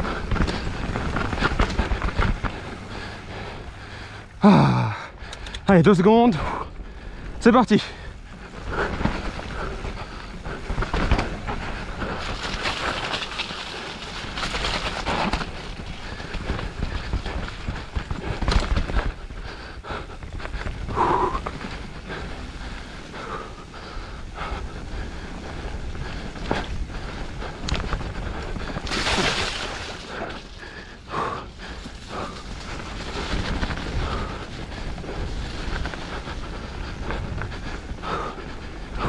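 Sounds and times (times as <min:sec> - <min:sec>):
bike knocking and rattling: 0:00.0 - 0:04.2, 0:05.2 - 0:39.0
rider breathing hard: 0:00.0 - 0:39.0
tyres on dirt and rock: 0:00.0 - 0:39.0.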